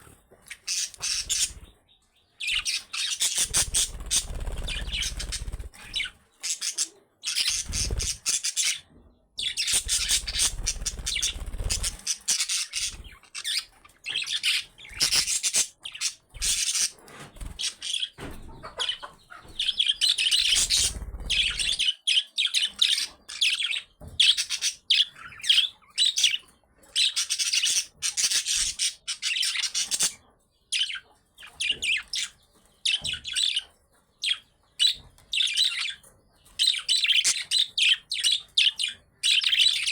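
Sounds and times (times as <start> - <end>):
budgerigars chirping: 0.4 - 39.9.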